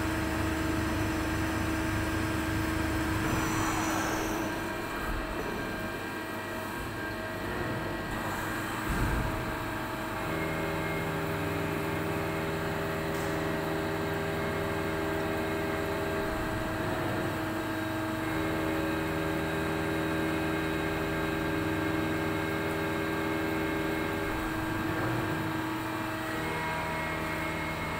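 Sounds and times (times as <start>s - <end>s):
multi-tone motor whine: 0.0s - 27.9s.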